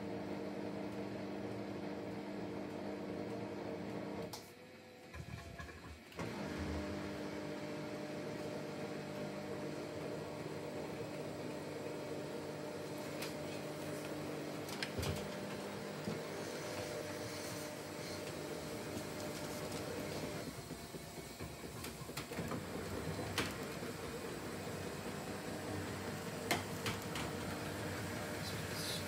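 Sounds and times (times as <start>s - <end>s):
washing machine drum humming: 5.1s - 29.0s.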